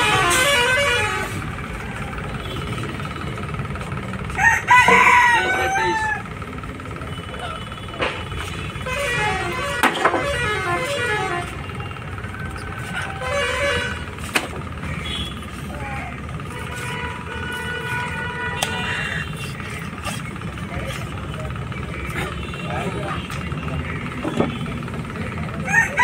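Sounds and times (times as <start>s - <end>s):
vehicle horns tooting: 0.0s - 3.7s, 4.4s - 25.8s
low traffic rumble: 0.0s - 26.0s.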